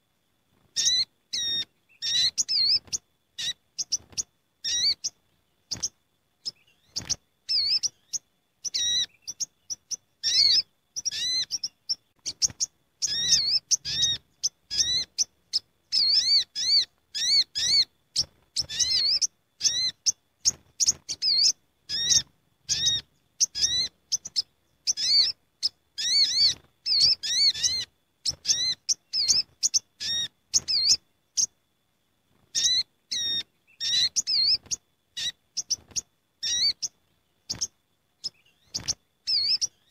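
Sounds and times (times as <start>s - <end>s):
birds chirping: 0.0s - 31.6s, 32.3s - 39.9s.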